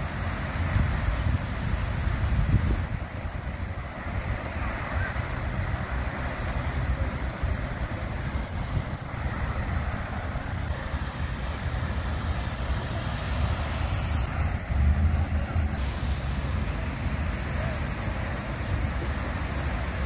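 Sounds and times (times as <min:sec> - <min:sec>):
fountain water splashing: 0:00.0 - 0:20.0
wind buffeting microphone: 0:00.0 - 0:20.0.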